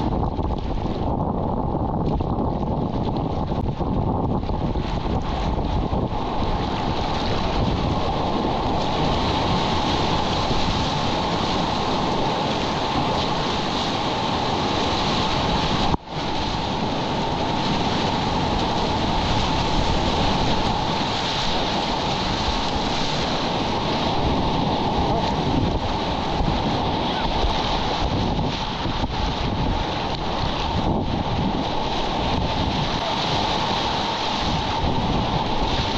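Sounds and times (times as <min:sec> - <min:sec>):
wind buffeting microphone: 0:00.0 - 0:35.9
whitewater rapids rushing: 0:04.5 - 0:35.9.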